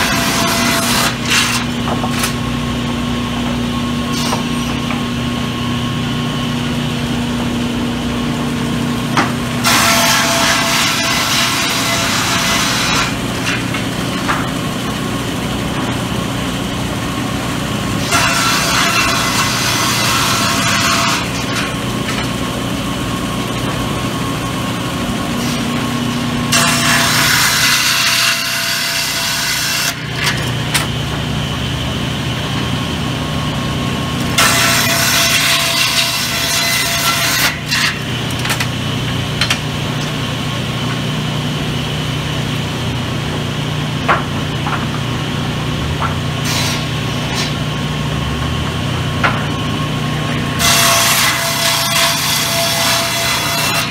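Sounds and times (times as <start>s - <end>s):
circular saw running: 0.0s - 53.9s.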